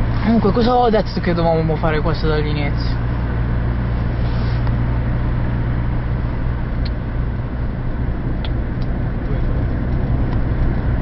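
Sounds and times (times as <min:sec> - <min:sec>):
car engine hum: 0:00.0 - 0:11.0
road and tyre noise: 0:00.0 - 0:11.0.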